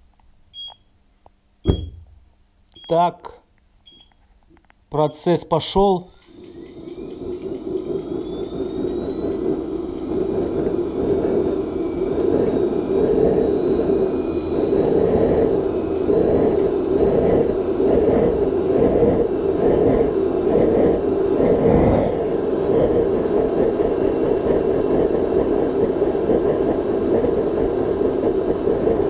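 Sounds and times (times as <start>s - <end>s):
turbine whine rising in pitch: 5.1s - 29.0s
rushing combustion noise: 5.6s - 29.0s.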